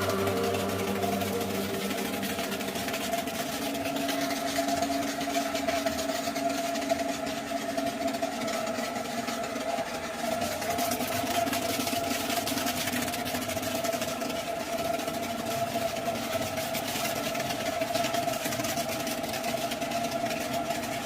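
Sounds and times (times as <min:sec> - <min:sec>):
pressure washer motor hum: 0:00.0 - 0:21.0.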